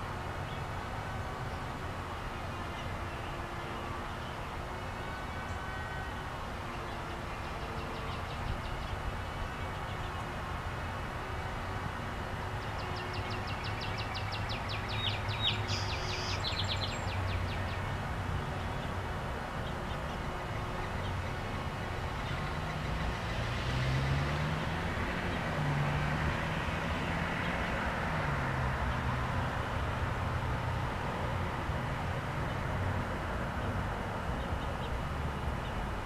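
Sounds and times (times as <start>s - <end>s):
passing vehicle engine: 0.0s - 36.0s
traffic noise: 0.0s - 36.0s.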